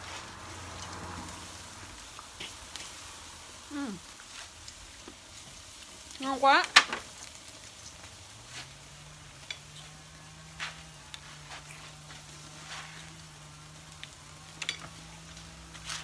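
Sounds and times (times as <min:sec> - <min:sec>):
shellfish sizzling on grill: 0:00.0 - 0:16.0.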